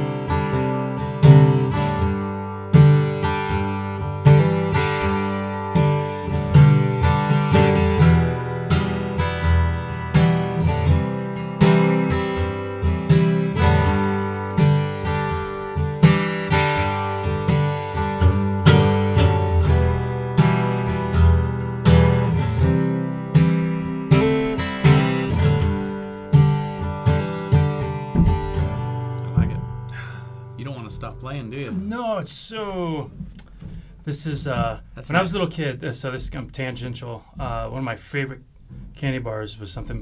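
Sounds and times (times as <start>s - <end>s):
acoustic guitar playing: 0.0s - 40.0s.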